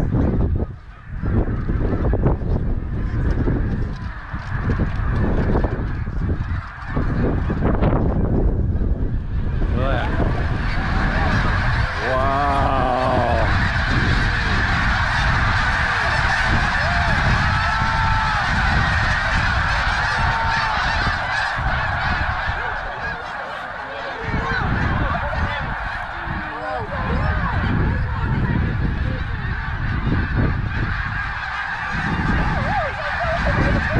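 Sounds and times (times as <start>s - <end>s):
geese honking: 0.0s - 33.9s
wind rumbling on microphone: 0.0s - 33.9s.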